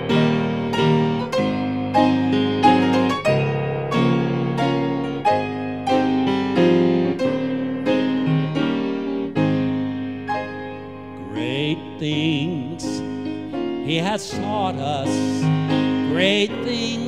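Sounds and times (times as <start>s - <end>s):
grand piano chords: 0.0s - 17.0s.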